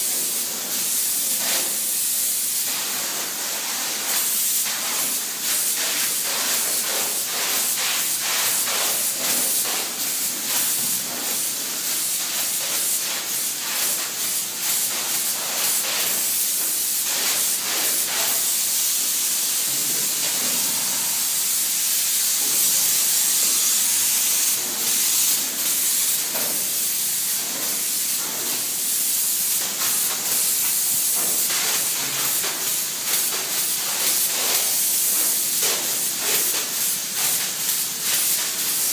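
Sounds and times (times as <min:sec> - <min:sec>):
foam spray gun hissing: 0:00.0 - 0:38.9.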